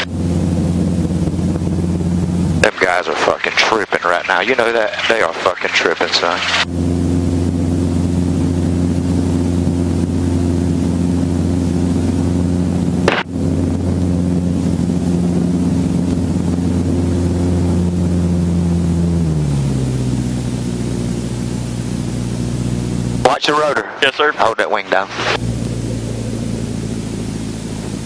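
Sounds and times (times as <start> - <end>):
helicopter engine and rotor: 0.0 - 28.0.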